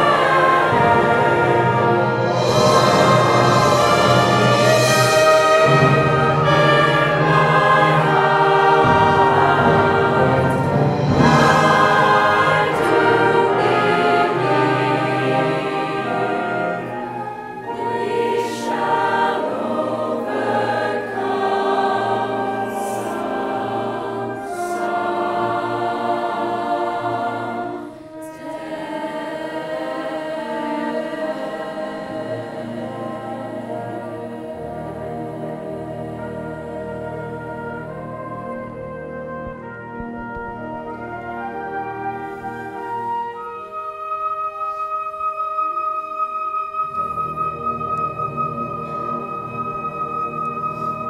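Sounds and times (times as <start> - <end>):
choir singing slow chords: 0.0 - 40.1, 40.8 - 51.0.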